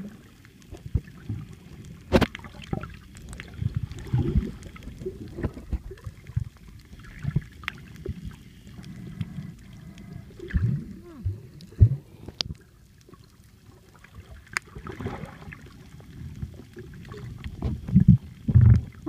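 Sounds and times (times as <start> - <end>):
underwater sloshing and gurgling: 0.0 - 19.0.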